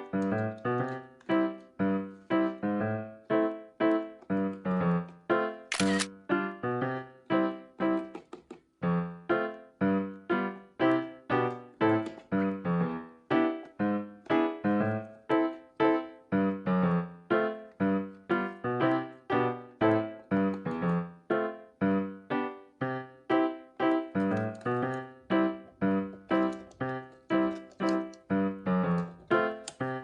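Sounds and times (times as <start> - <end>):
piano-like keyboard notes: 0.0 - 30.0.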